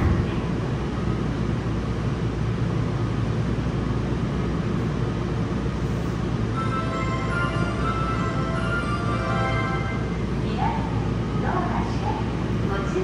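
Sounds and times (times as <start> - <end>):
train rumbling from inside car: 0.0 - 13.0.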